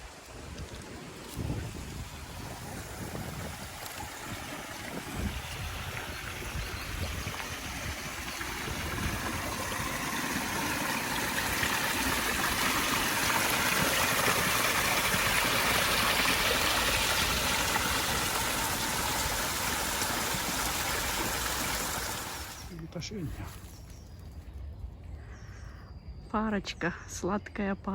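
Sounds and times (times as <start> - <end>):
water rushing: 0.0 - 23.9.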